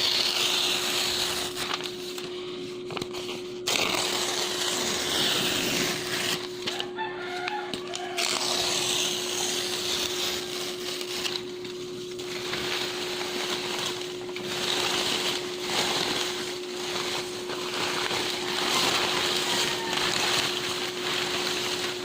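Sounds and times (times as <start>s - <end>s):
paper tearing: 0.0s - 2.3s, 2.9s - 22.0s
steady low hum: 0.0s - 22.0s.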